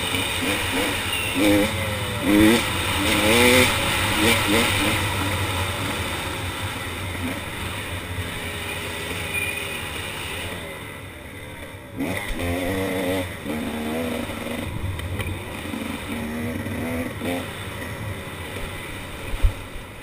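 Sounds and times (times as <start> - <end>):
dirt bike engine revving: 0.0 - 11.1, 11.8 - 20.0.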